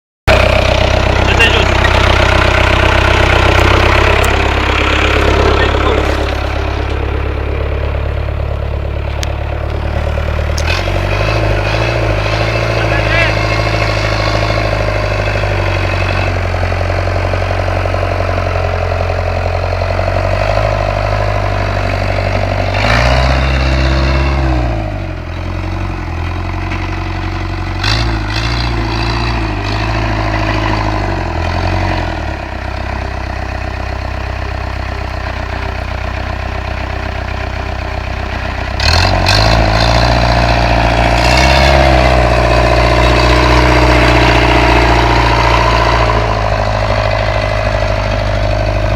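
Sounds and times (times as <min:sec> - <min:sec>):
tractor engine idling and revving: 0:00.2 - 0:48.9.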